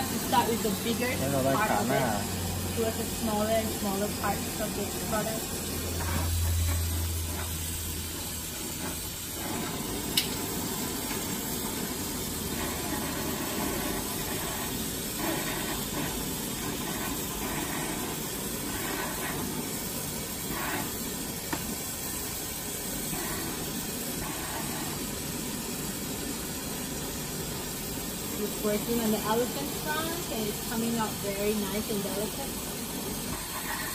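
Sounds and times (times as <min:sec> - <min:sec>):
torches hissing: 0:00.0 - 0:33.9.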